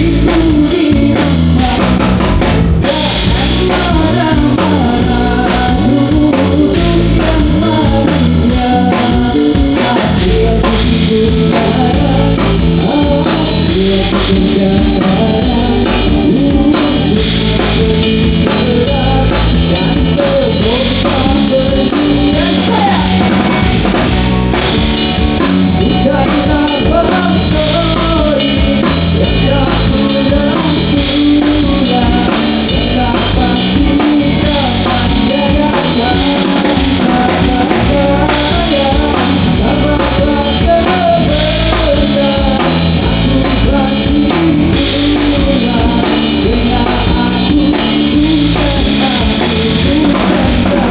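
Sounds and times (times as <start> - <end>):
live rock band playing: 0.0 - 50.9
person singing: 0.0 - 50.9.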